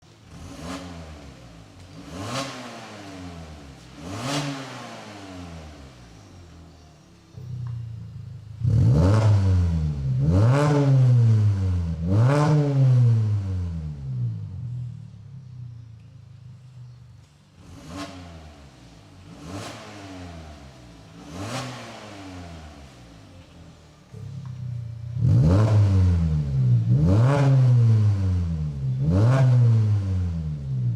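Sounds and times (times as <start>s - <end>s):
car engine revving: 0.1s - 16.8s, 17.5s - 30.9s.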